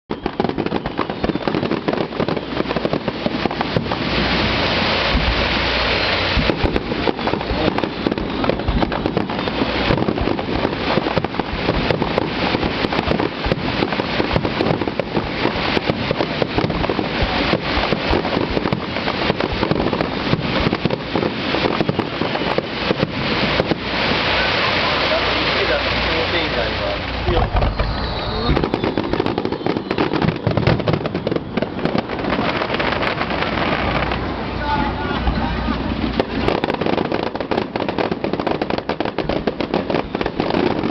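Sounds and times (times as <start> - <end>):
fireworks crackling and banging: 0.1 - 40.9.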